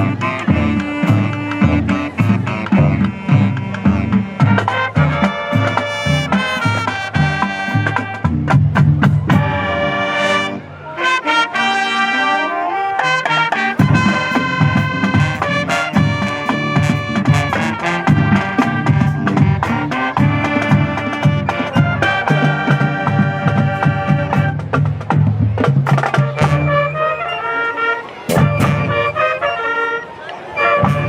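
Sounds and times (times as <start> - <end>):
drumline beat: 0.0 - 10.1, 13.0 - 27.2, 28.3 - 29.4
brass melody: 0.0 - 25.2, 25.8 - 31.0
woodwinds: 0.0 - 31.0.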